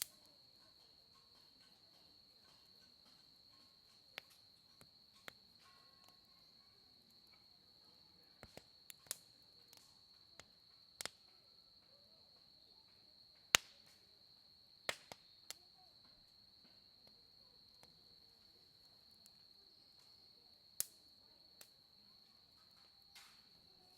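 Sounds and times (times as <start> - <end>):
campfire crackling and popping: 0.0 - 11.8, 12.4 - 23.9
crickets trilling: 0.0 - 23.9.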